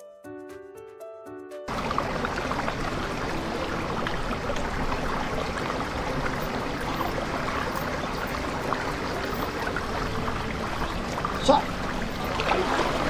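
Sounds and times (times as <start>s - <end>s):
water running in a channel: 1.7s - 13.0s
water splashing over a drop: 1.7s - 13.0s.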